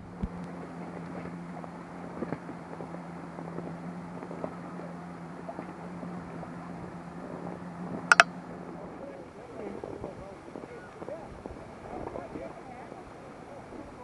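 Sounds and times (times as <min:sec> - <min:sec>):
small waves lapping against boat: 0:00.0 - 0:14.0.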